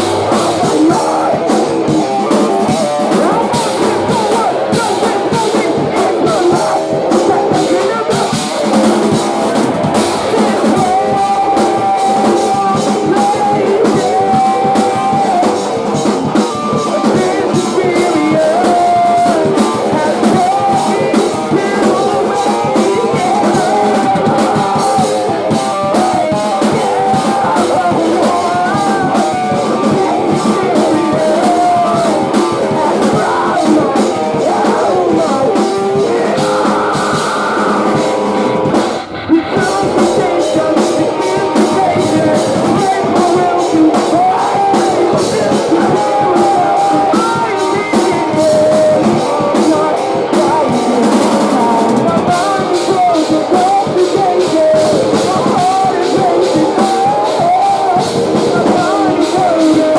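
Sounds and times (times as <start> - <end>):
distorted guitars: 0.0 - 59.9
drum kit: 0.0 - 59.9
person singing: 0.0 - 59.9.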